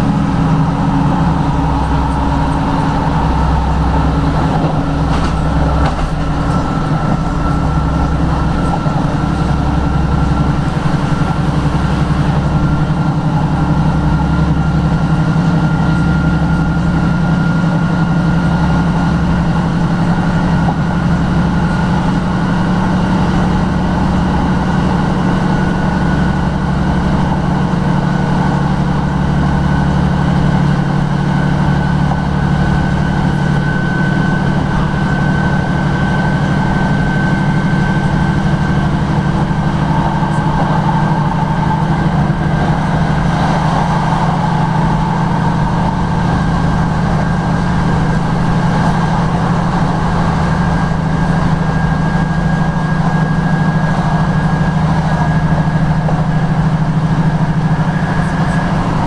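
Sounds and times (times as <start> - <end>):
high whine rising in pitch: 0.0 - 22.6, 28.5 - 59.0
diesel engine throbbing: 0.0 - 59.0
wheels rumbling on track: 0.0 - 59.0.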